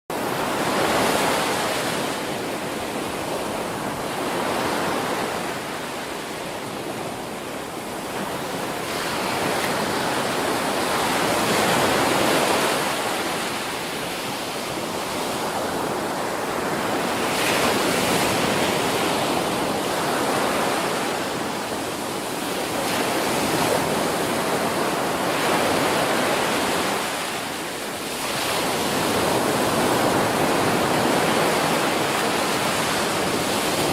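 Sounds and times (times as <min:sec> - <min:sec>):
ocean waves breaking: 0:00.1 - 0:33.9.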